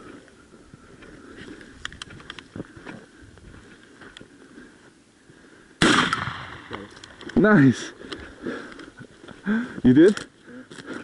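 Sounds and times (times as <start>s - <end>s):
footsteps in dry scrub: 0.0s - 5.4s, 6.8s - 11.0s.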